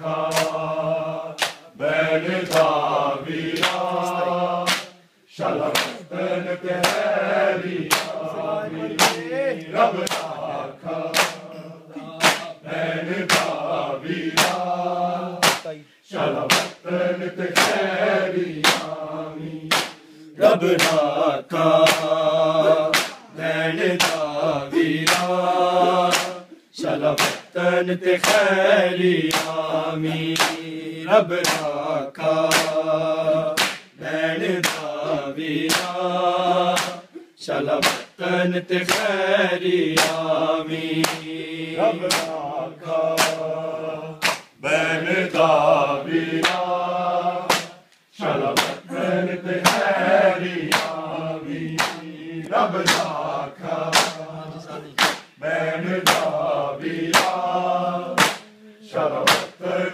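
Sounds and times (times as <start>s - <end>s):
men chanting a lament: 0.0s - 59.9s
hands slapping chests: 0.2s - 0.7s, 1.4s - 14.8s, 15.4s - 19.0s, 19.7s - 28.6s, 29.2s - 30.8s, 31.4s - 34.0s, 34.6s - 36.0s, 36.7s - 38.2s, 38.8s - 39.2s, 39.8s - 40.4s, 41.0s - 41.3s, 42.0s - 43.6s, 44.2s - 44.6s, 45.3s - 46.8s, 47.4s - 51.1s, 51.7s - 55.4s, 56.0s - 58.5s, 59.1s - 59.6s.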